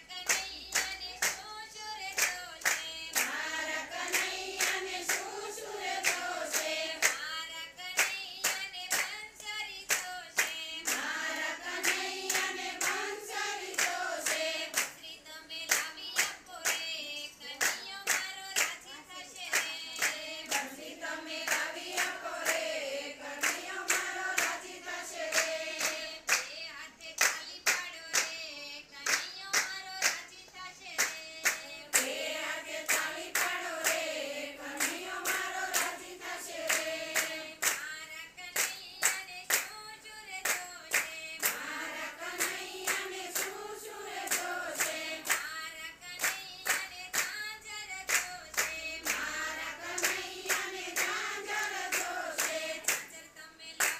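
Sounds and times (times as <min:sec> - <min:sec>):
women singing in unison: 0:00.0 - 0:53.9
hand claps: 0:00.1 - 0:22.7, 0:23.4 - 0:34.2, 0:34.8 - 0:53.2.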